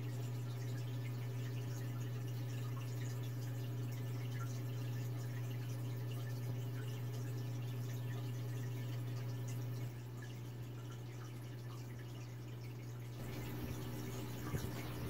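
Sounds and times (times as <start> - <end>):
filter motor hum: 0.0 - 15.0
water trickling and dripping: 0.0 - 15.0.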